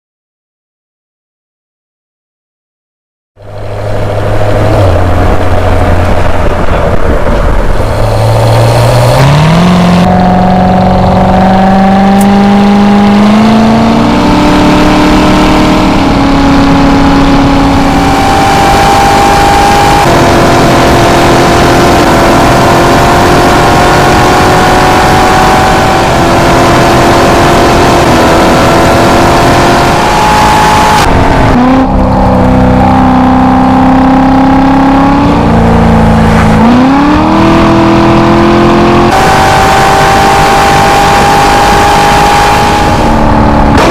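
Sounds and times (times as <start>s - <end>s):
vehicle engine revving: 3.4s - 43.9s.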